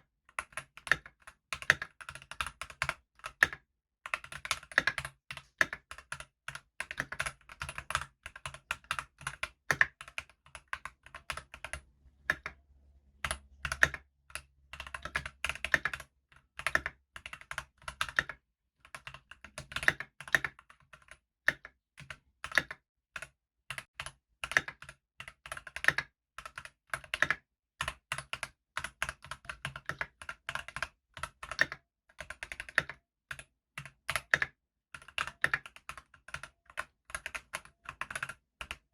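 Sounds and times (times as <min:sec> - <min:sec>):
mechanical keyboard typing: 0:00.4 - 0:12.6, 0:13.2 - 0:38.9.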